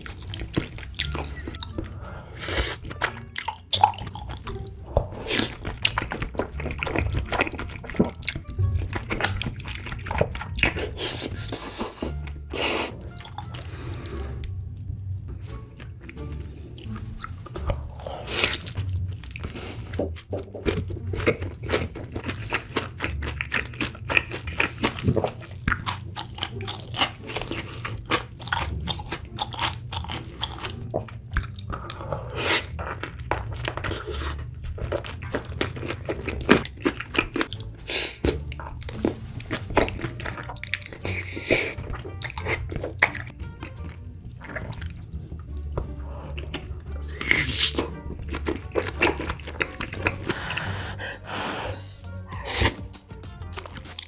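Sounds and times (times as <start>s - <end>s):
background music with bass: 0.0s - 54.0s
crunching and chewing food: 0.0s - 54.0s.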